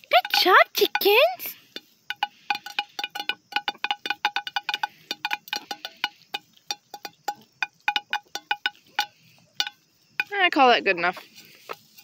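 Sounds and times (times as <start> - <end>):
hens pecking at a plate: 0.0 - 12.0.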